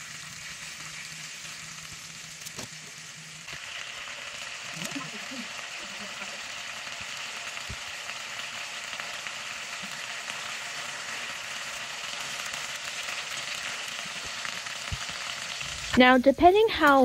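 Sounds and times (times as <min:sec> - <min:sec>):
steaks sizzling in a pan: 0:00.0 - 0:17.0.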